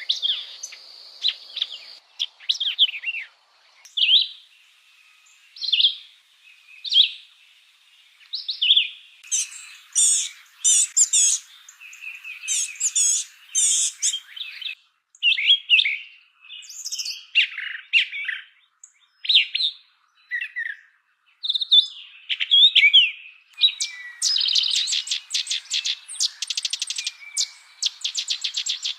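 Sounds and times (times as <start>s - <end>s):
songbirds chirping: 0.0s - 28.9s.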